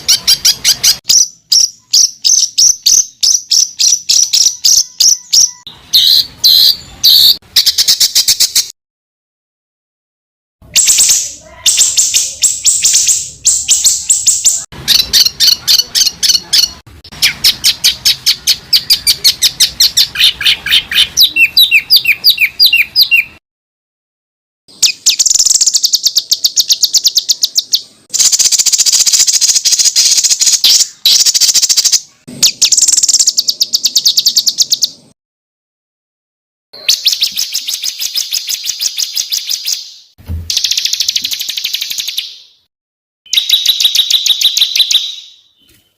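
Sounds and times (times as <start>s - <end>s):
songbird singing: 0.0s - 8.7s, 10.6s - 23.4s, 24.7s - 35.2s, 36.8s - 42.7s, 43.3s - 45.9s.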